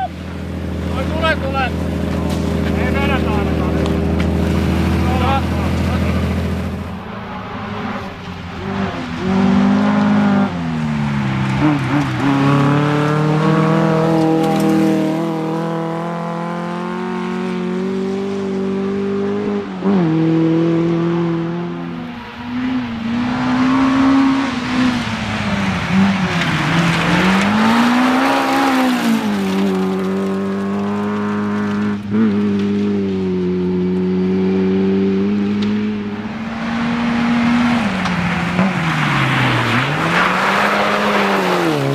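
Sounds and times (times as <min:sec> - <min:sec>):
rally car engine revving: 0:00.0 - 0:41.9.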